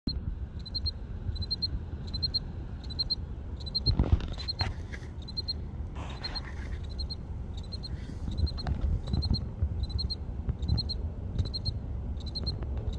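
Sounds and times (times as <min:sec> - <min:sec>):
field cricket chirping: 0:00.6 - 0:12.6.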